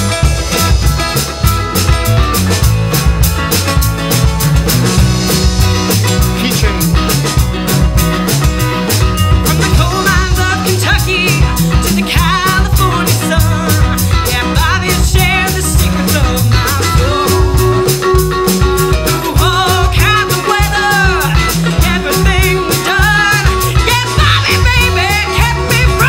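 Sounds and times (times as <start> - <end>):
folk-rock band playing: 0.0 - 26.0
steady drum beat: 0.0 - 26.0.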